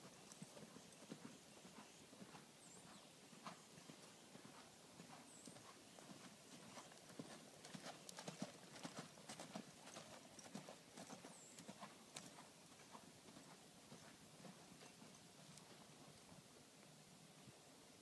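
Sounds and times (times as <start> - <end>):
horse hoofbeats cantering on sand: 0.0 - 16.4.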